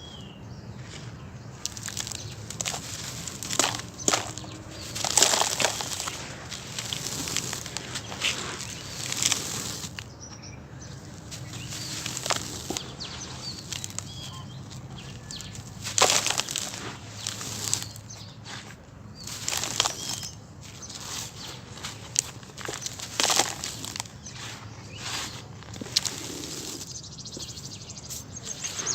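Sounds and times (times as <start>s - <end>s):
cement chunks crunching: 0.8s - 28.9s.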